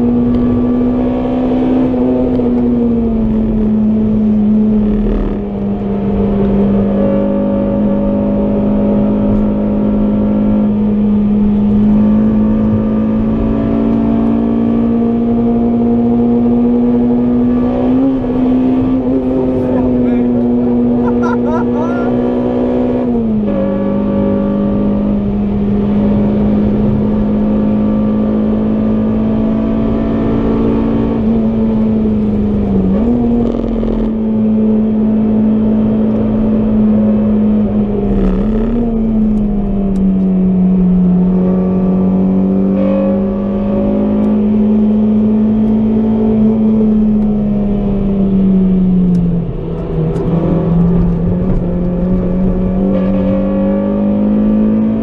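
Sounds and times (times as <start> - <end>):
car engine at high revs: 0.0 - 55.0
road and tyre noise: 0.0 - 55.0.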